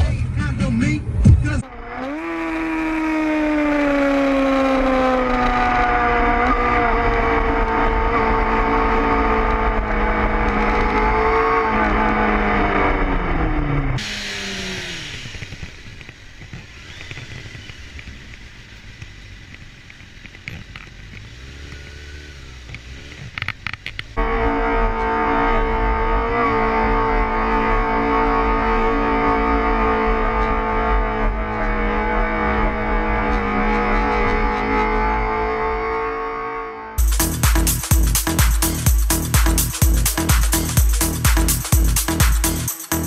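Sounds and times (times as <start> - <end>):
sport bike engine: 0.0 - 43.0
motorcycle engine at speed: 1.2 - 43.0.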